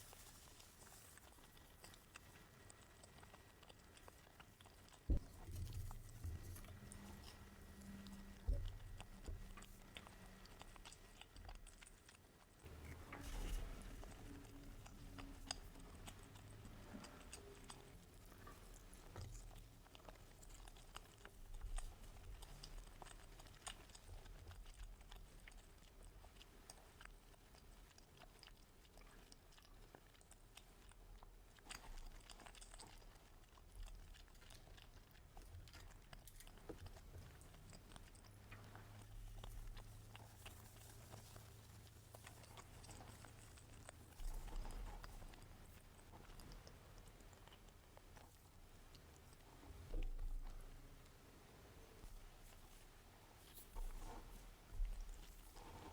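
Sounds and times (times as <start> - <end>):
person chewing and biting: 0.0 - 50.6.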